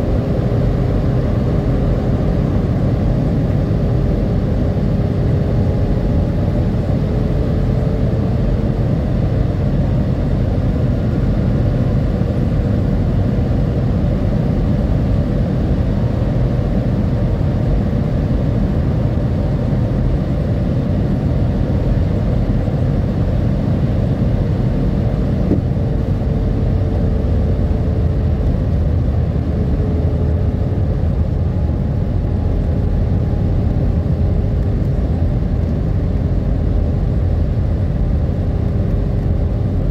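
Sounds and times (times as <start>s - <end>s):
jet engine cabin roar: 0.0s - 39.9s.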